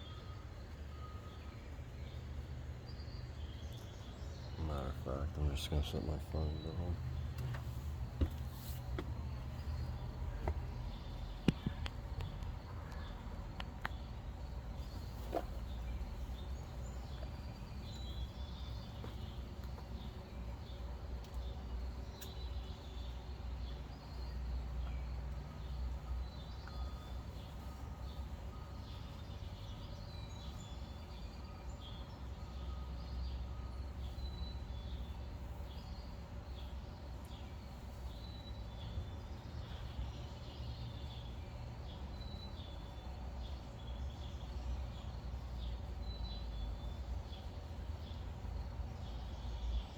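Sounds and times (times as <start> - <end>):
low machinery rumble: 0.0 - 49.9
small birds chirping: 0.0 - 49.9.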